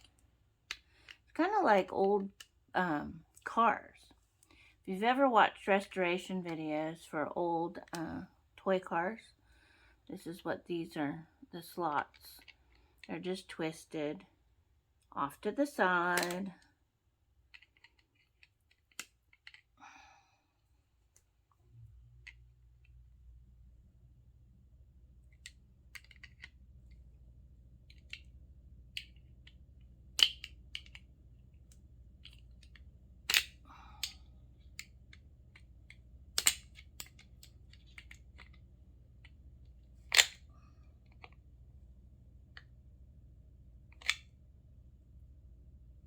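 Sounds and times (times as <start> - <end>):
faint low hum: 0.0 - 46.0.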